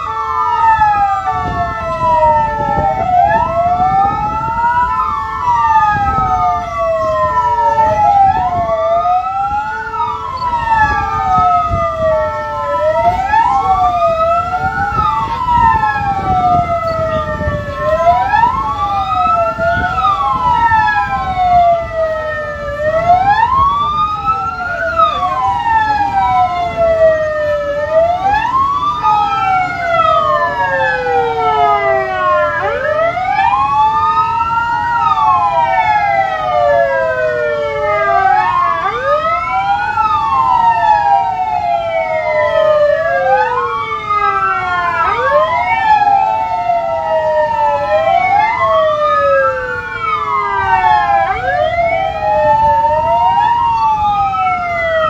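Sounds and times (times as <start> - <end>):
ambulance sirens wailing: 0.0 - 55.0.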